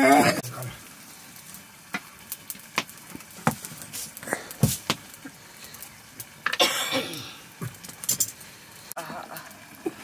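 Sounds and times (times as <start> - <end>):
faint steady hiss: 0.0 - 10.0
wood fire crackling: 0.0 - 10.0.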